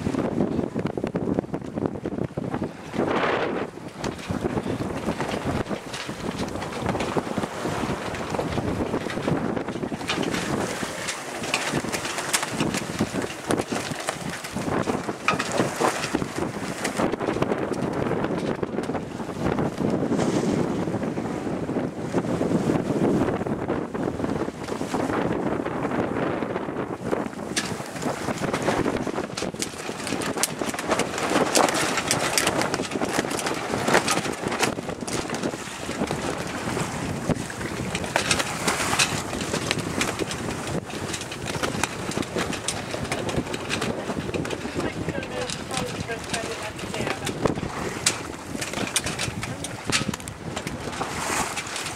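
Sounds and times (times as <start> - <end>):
choppy water splashing on hull: 0.0 - 51.9
wind buffeting microphone: 0.0 - 51.9.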